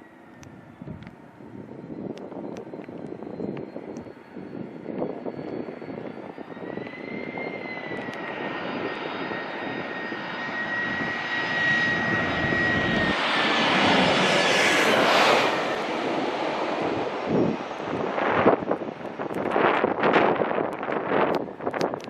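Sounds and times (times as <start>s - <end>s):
jet engine roar: 0.0s - 22.0s
jet engine whine: 0.0s - 22.0s.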